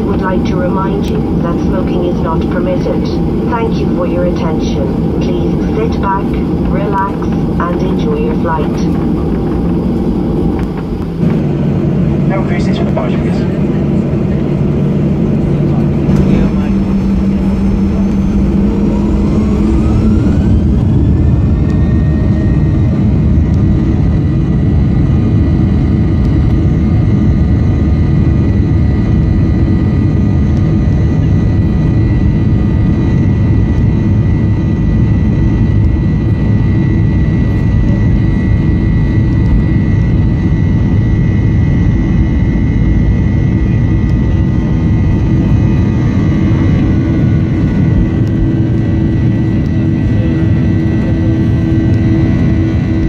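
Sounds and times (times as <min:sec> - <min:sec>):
jet engine rumble: 0:00.0 - 0:53.0
jet engine whine: 0:00.0 - 0:53.0.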